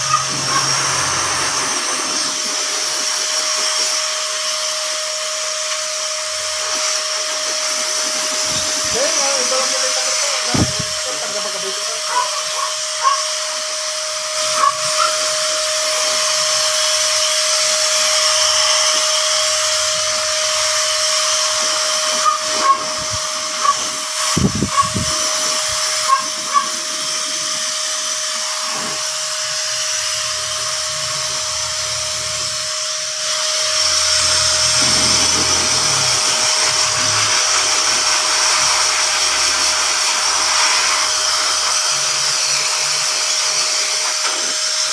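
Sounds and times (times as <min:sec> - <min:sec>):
pet blower dryer running: 0:00.0 - 0:44.9.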